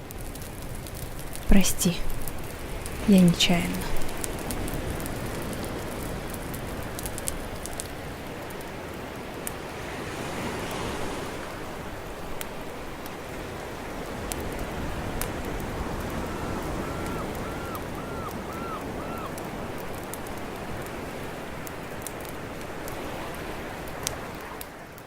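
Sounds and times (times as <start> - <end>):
rushing outdoor ambience: 0.0 - 25.0.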